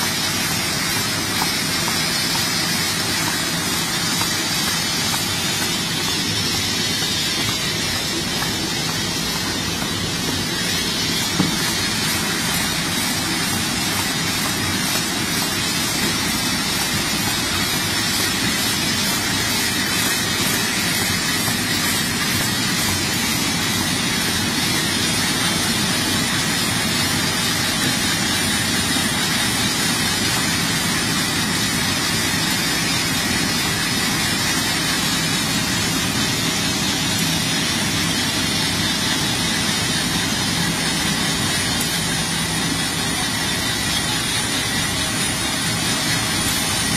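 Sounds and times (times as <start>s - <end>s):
machine whirring: 0.0s - 46.9s.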